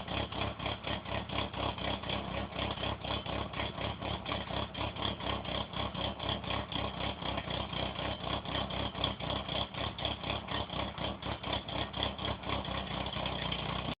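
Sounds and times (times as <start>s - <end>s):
car engine idling lumpily: 0.0s - 14.0s.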